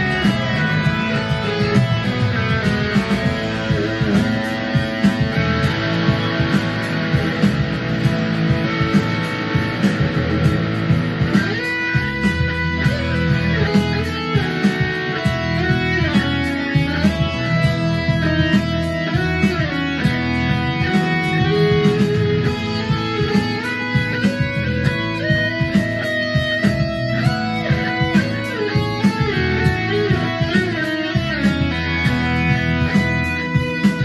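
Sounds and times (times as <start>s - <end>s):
electric guitar lead melody: 0.0s - 34.0s
rhythmic backing music: 0.0s - 34.0s.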